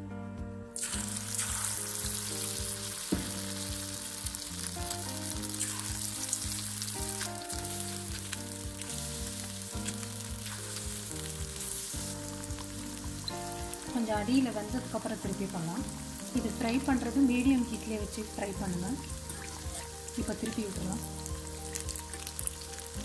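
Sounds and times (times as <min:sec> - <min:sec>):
background music with held notes: 0:00.0 - 0:23.0
fish deep-frying in oil: 0:00.8 - 0:23.0.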